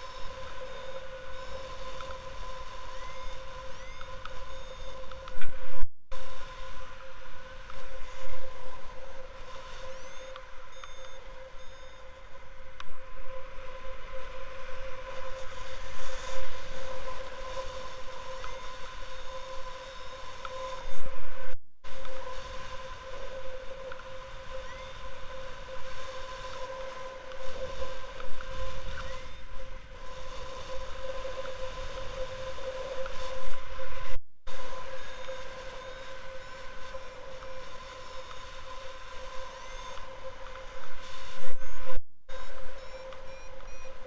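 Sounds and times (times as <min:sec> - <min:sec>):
steady high-pitched whine: 0:00.0 - 0:44.0.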